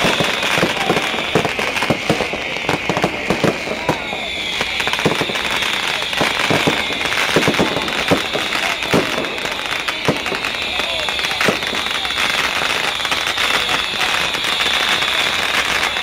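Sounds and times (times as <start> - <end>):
bottle rockets shrieking: 0.0 - 16.0
firework bangs and cracks: 0.0 - 16.0.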